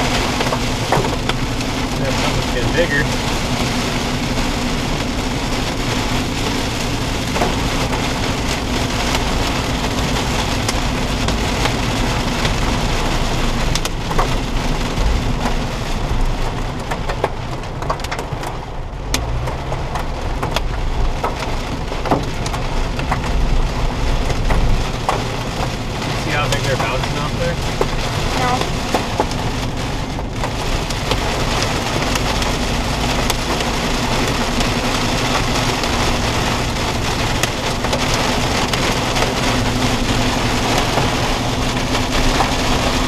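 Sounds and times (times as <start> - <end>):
heavy rain on car roof: 0.0 - 43.0
wet road tyre noise: 0.0 - 43.0
raindrops ticking on glass: 5.9 - 43.0.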